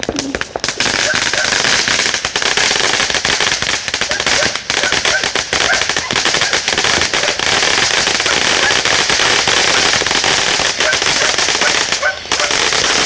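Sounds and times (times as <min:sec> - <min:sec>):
firework hiss: 0:00.0 - 0:13.0
firework rapid crackling: 0:00.0 - 0:13.0.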